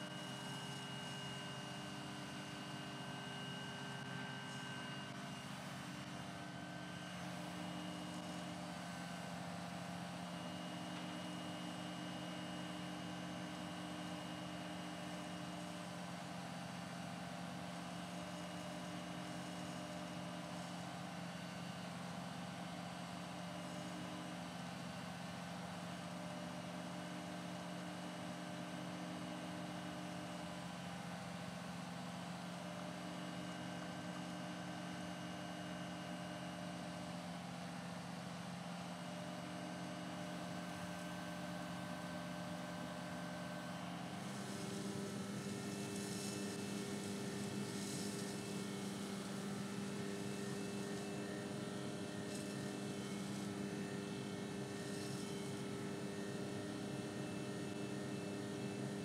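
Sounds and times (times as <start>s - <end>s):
vacuum excavator droning: 0.0s - 59.0s.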